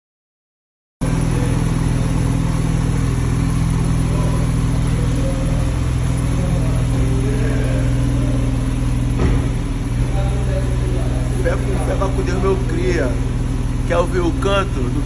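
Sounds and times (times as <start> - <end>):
car engine running: 1.0 - 15.0.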